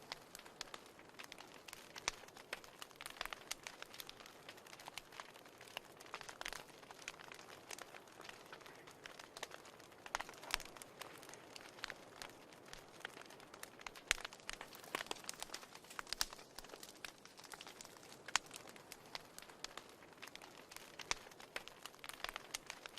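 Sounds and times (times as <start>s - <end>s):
faint steady hiss: 0.0s - 22.9s
wood fire crackling: 0.0s - 22.9s.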